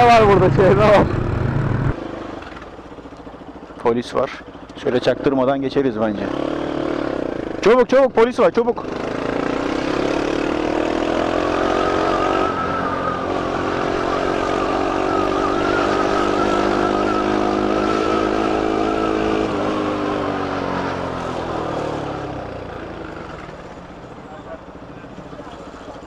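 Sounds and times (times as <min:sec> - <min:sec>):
motorcycle engine accelerating: 0:00.0 - 0:03.8, 0:04.4 - 0:24.3
wind and road noise: 0:00.0 - 0:03.8, 0:04.5 - 0:26.0.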